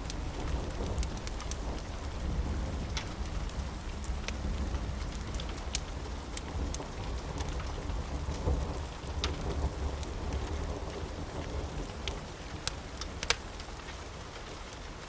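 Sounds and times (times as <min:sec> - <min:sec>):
low rumble of thunder: 0:00.0 - 0:14.3
steady rain: 0:00.0 - 0:15.0.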